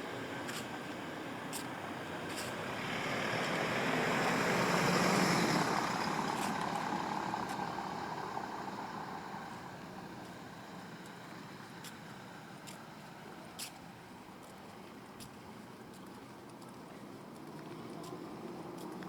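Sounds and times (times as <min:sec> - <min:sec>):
road vehicle passing by: 0:00.0 - 0:14.2, 0:16.5 - 0:19.0.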